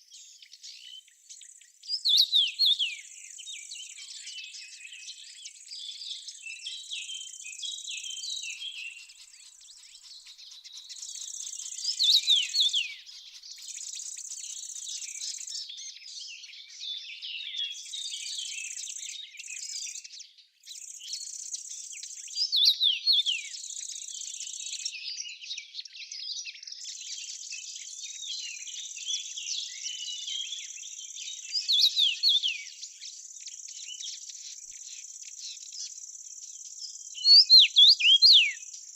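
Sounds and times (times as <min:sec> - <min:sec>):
birds chirping and whistling: 0:00.1 - 0:20.2, 0:20.8 - 0:38.9.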